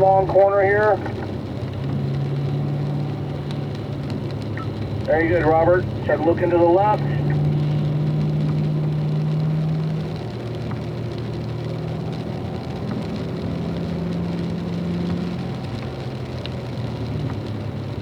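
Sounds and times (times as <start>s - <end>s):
car engine running: 0.0s - 18.0s
hiss of rain and spray: 0.0s - 18.0s.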